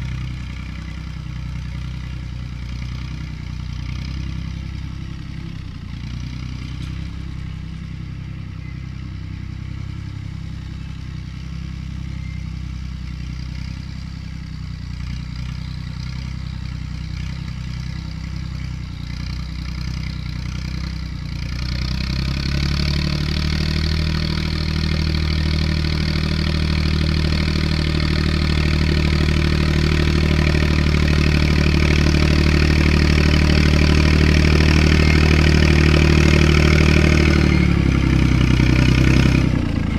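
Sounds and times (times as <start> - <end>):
tractor engine revving: 0.0 - 39.9.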